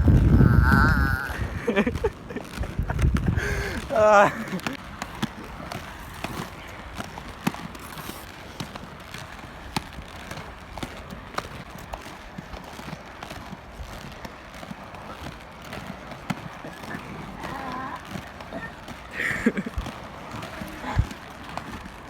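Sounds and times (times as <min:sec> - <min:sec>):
roller skates rolling: 0:00.0 - 0:22.0.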